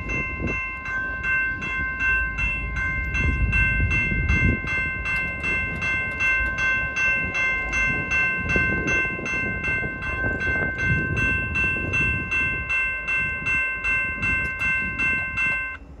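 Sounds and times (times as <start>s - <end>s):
crossing bell ringing: 0.0s - 16.0s
train rumbling: 0.0s - 16.0s.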